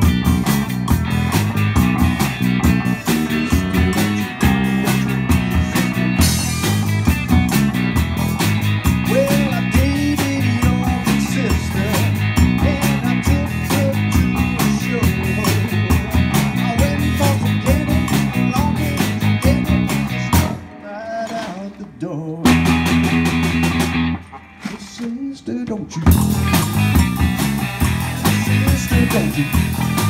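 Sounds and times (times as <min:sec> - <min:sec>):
bending lead guitar notes: 0:00.0 - 0:24.6, 0:26.0 - 0:30.0
live rock band playing: 0:00.0 - 0:30.0.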